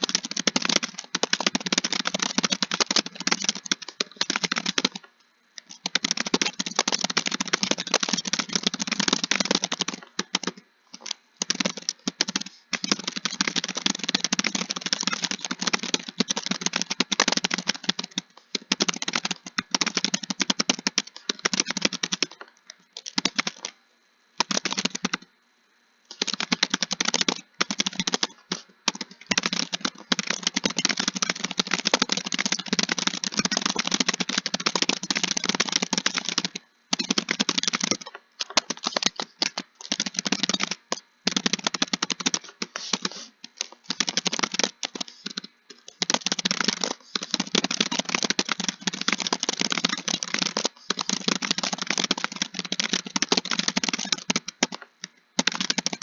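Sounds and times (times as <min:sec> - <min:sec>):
fast typing on keyboard: 0:00.0 - 0:23.8, 0:24.4 - 0:25.3, 0:26.1 - 0:56.0.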